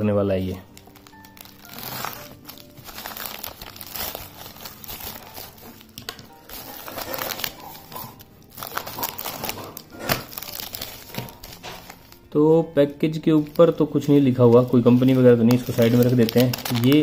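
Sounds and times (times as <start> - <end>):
plastic mailer crinkling: 0.6 - 12.2, 13.2 - 17.0.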